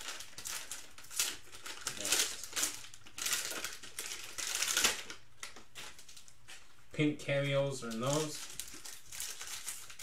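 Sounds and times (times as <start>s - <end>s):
foil wrapper crinkling: 0.0s - 6.4s, 7.8s - 10.0s.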